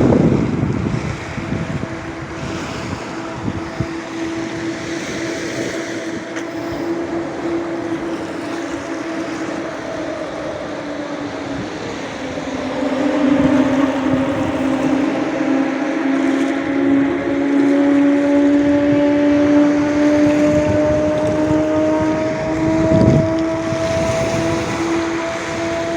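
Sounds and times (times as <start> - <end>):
engine hum: 0.0 - 25.9
surf washing onto beach: 0.0 - 25.9.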